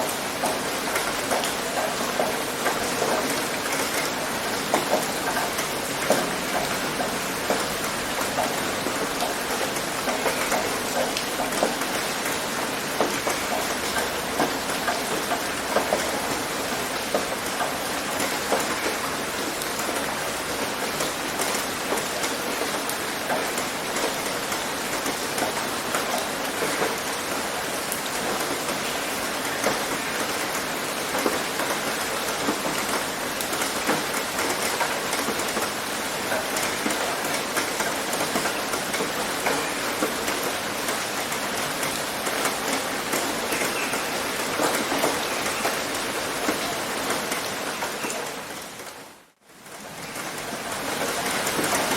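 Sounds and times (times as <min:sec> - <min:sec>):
rain pattering on a tin roof: 0:00.0 - 0:51.9.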